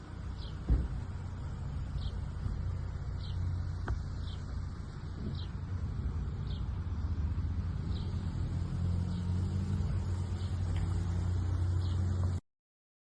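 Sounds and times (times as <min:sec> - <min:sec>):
engine humming: 0:00.0 - 0:12.4.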